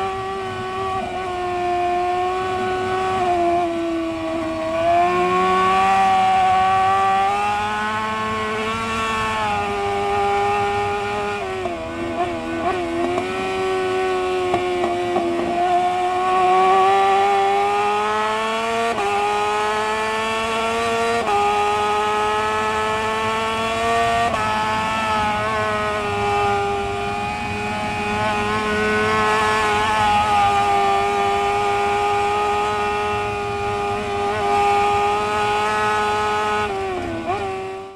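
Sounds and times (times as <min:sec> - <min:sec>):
motorcycle engine at high revs: 0:00.0 - 0:37.9
rush of wind: 0:00.0 - 0:37.9.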